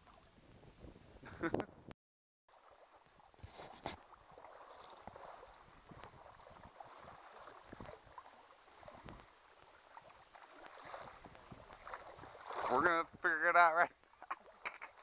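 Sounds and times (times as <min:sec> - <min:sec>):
lake water lapping and sloshing: 0:00.0 - 0:00.6, 0:02.5 - 0:15.0.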